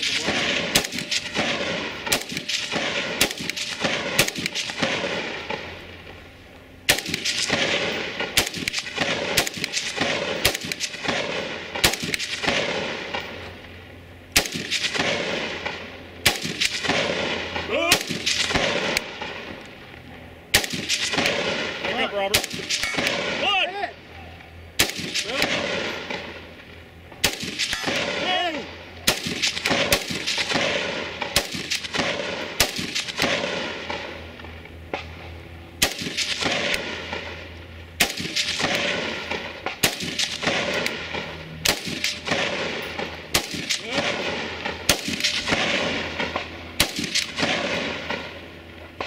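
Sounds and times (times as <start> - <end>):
echoing rifle shots: 0.0 - 19.9, 20.5 - 24.0, 24.6 - 49.0.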